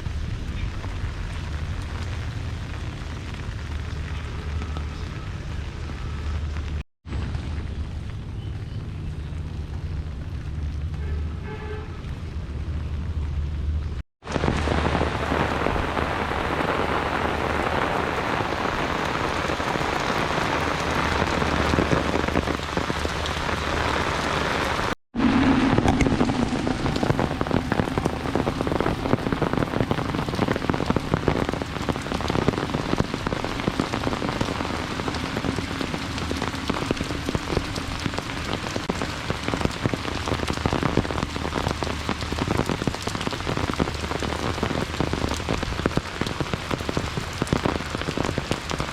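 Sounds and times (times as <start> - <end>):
heavy rain hissing: 0.0 - 8.2, 14.2 - 48.9
raindrops pattering: 0.0 - 48.9.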